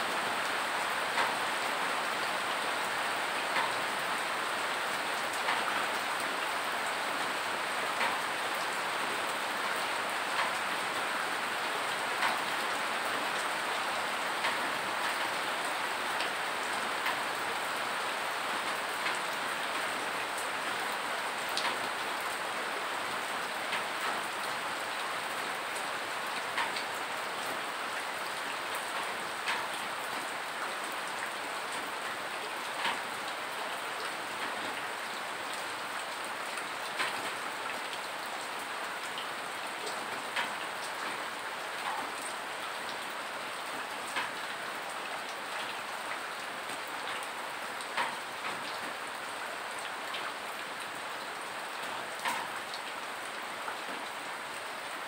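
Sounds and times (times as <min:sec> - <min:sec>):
steady rain hissing: 0:00.0 - 0:55.0.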